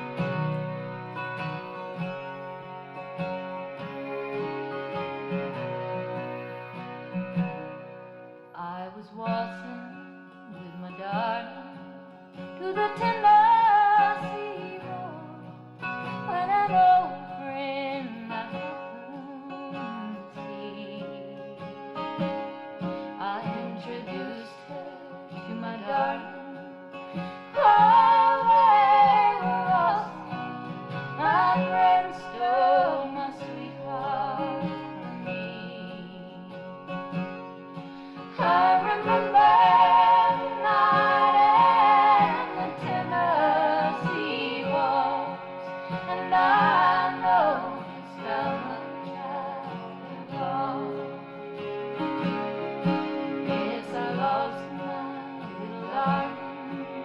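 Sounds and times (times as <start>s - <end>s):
guitar accompaniment: 0.0s - 57.0s
person singing: 8.6s - 22.1s, 23.0s - 36.8s, 38.0s - 57.0s.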